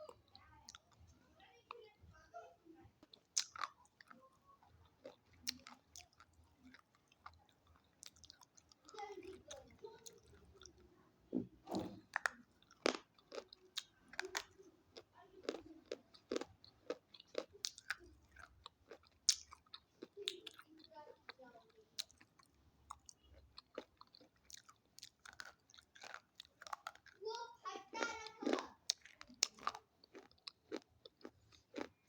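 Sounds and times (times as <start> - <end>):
chewing crunchy sticks: 0.0 - 1.9, 3.0 - 32.0.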